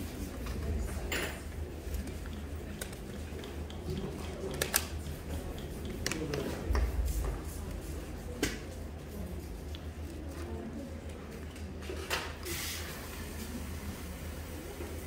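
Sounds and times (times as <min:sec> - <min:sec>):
faint background voices: 0:00.0 - 0:15.0.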